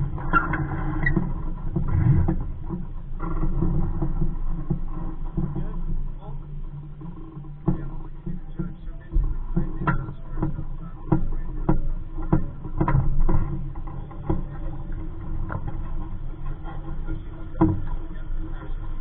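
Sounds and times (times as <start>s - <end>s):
waves slapping a boat hull: 0.0s - 19.0s.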